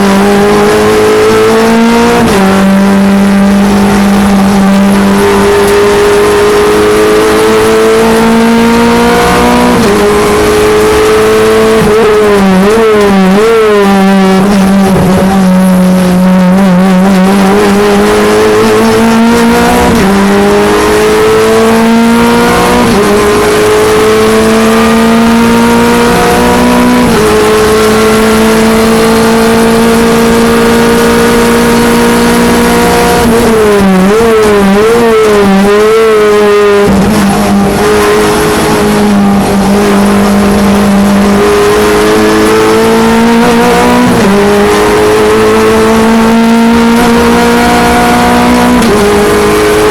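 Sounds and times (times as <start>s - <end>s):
race car engine at full throttle: 0.0s - 49.9s.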